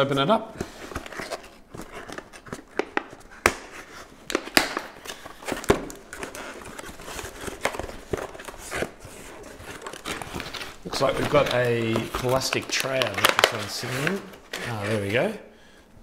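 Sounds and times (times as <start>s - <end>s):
cardboard rustling and scraping: 0.6s - 4.4s, 5.1s - 15.3s.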